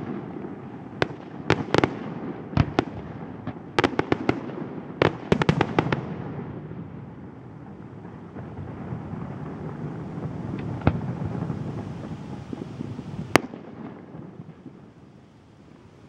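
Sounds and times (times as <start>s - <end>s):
sharp firework bangs: 0.0s - 7.2s, 7.8s - 15.9s
rumble of firework bursts: 0.0s - 16.0s.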